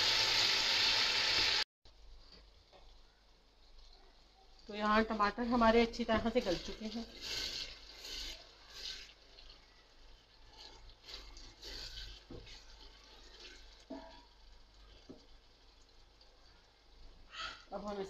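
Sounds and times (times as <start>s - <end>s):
faint sizzle: 0.0s - 18.0s.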